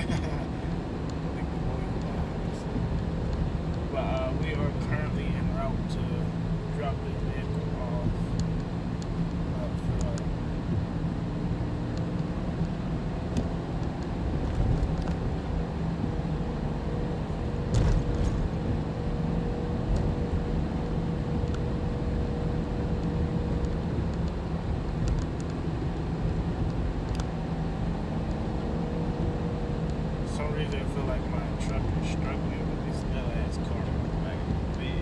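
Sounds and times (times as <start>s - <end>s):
truck engine drone: 0.0s - 35.0s.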